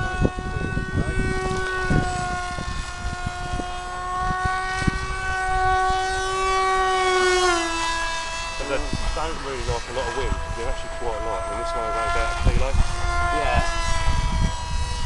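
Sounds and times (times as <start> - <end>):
model plane propeller drone: 0.0 - 15.0
wind rumbling on microphone: 0.0 - 15.0.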